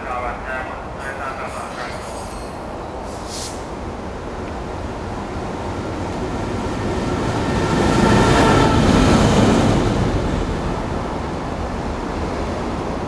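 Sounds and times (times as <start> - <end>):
diesel locomotive rumbling past: 0.0 - 13.0.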